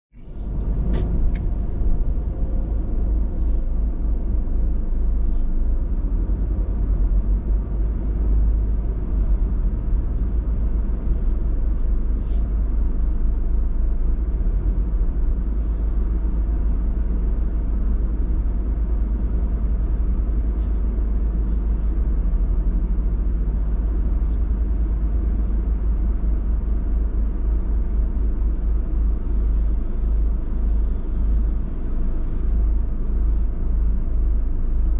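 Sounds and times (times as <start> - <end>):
car rumble: 0.1 - 34.9.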